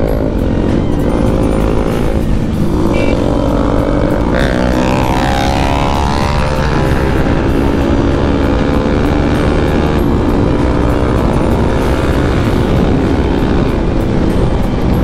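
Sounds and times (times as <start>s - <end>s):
motorcycle engine accelerating: 0.0s - 15.0s
wind rush on microphone: 0.0s - 15.0s.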